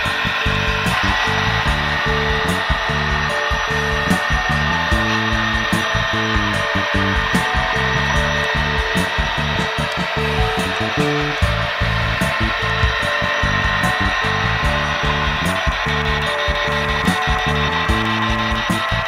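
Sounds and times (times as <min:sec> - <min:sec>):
busy beat: 0:00.0 - 0:19.0
dense buzzing synth texture: 0:00.0 - 0:19.0
fast bass line: 0:00.0 - 0:19.0.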